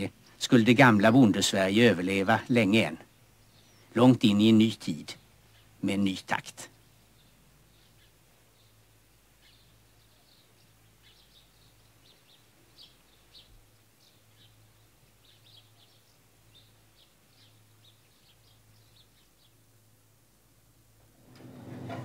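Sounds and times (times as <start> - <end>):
faint birds chirping: 0.0 - 22.0.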